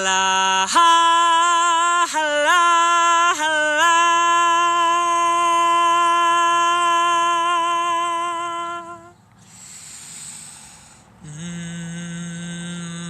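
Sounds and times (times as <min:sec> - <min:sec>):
woman singing a long note: 0:00.0 - 0:09.2, 0:11.2 - 0:13.0.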